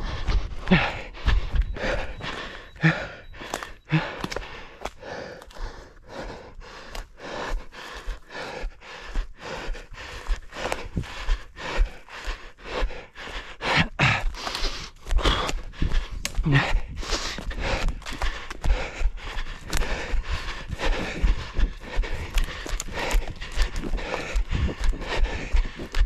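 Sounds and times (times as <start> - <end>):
runner breathing hard: 0.0 - 26.0
running footfalls: 0.0 - 26.0.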